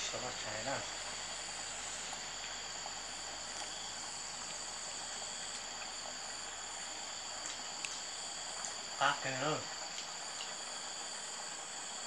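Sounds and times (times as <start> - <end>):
insects calling: 0.0 - 12.0.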